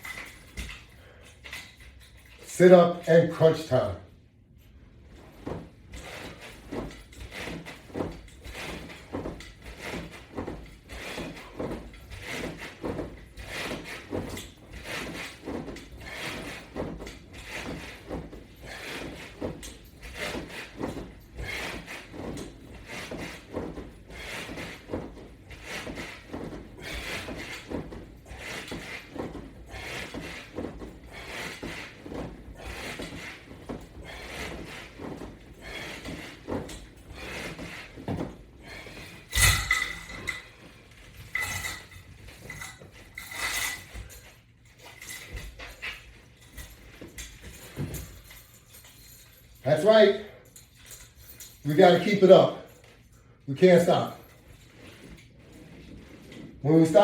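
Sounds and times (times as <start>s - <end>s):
resistance band straps noise: 4.6s - 57.0s.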